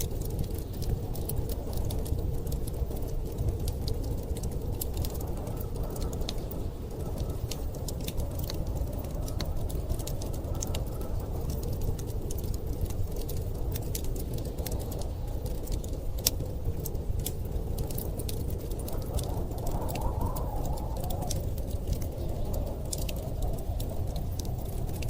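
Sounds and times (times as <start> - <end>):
blizzard wind rumbling: 0.0 - 25.0
wood fire crackling and popping: 0.0 - 25.0.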